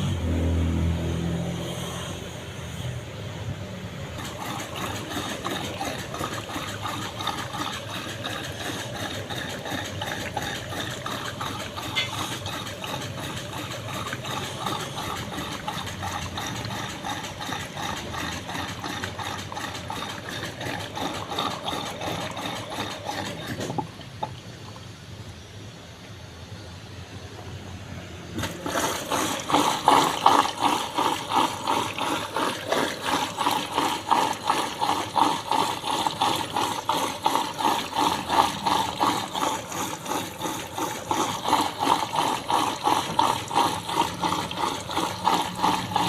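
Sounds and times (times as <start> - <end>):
machine running: 4.2 - 24.3, 26.6 - 46.0.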